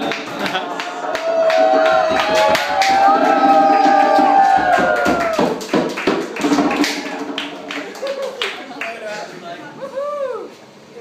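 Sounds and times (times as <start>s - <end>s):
hand clapping: 0.0s - 9.1s.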